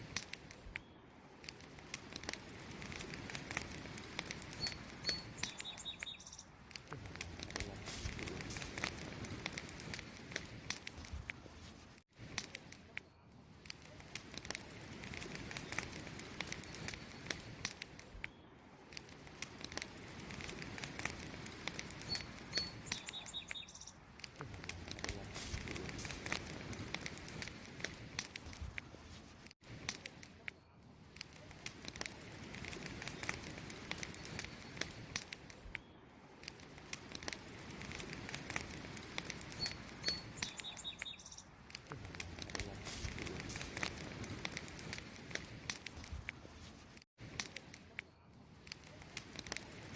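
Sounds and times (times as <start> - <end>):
campfire crackling: 0.0 - 49.9.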